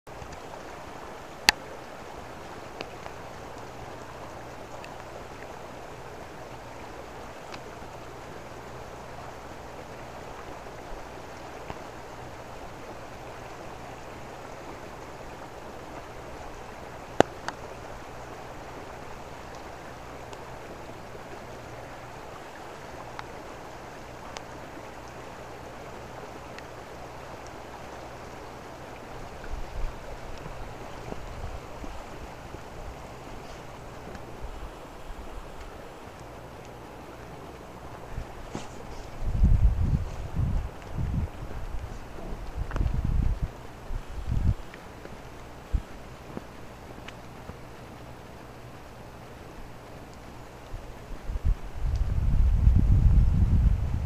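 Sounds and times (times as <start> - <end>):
rain hissing in forest: 0.0 - 54.0
single raindrops ticking: 0.1 - 52.8.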